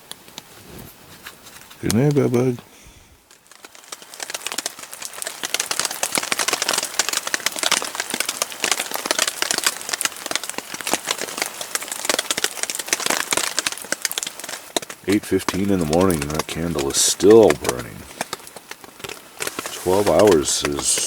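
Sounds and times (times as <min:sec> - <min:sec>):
rain tapping on a tarp: 0:01.2 - 0:21.0.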